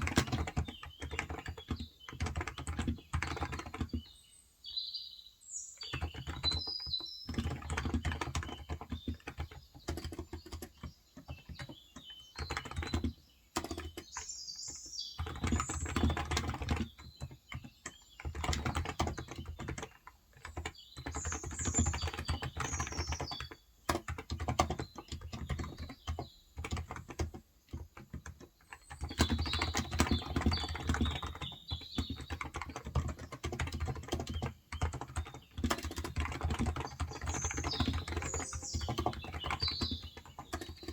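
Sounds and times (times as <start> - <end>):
keyboard typing: 0.0 - 4.1, 5.8 - 40.9
faint birds chirping: 0.0 - 40.9.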